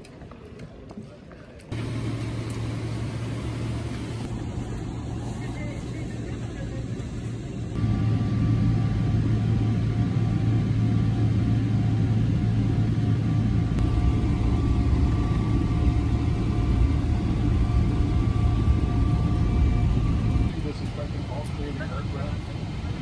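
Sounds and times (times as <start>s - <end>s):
airliner cabin rumble and hum: 1.7s - 23.0s.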